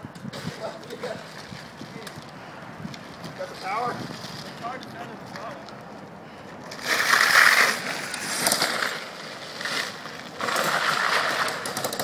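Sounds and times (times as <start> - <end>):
go-kart tyre and drive noise: 0.0 - 12.0.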